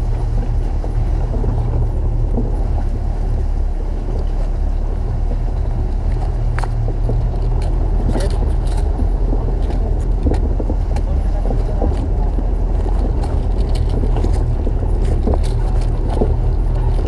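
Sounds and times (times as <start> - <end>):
vehicle engine droning: 0.0 - 17.0
wind rush on microphone: 0.0 - 17.0.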